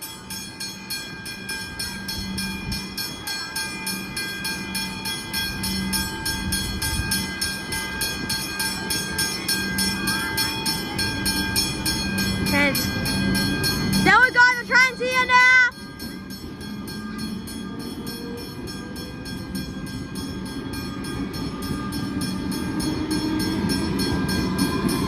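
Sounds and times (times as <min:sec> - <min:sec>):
crossing warning bell ringing: 0:00.0 - 0:25.0
train rumble: 0:00.0 - 0:25.0.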